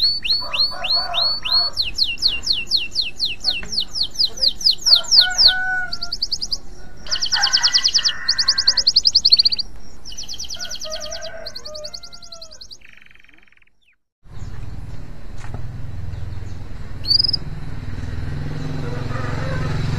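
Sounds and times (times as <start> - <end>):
canary singing fast trills: 0.0 - 14.8, 16.2 - 17.6.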